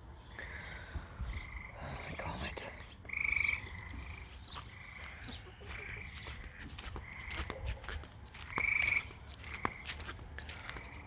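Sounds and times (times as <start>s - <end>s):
frogs calling: 0.2s - 11.0s.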